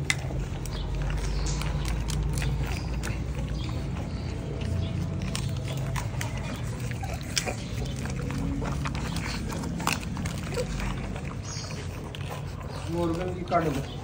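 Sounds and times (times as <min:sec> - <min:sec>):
puppies lapping from a bowl: 0:00.0 - 0:14.0.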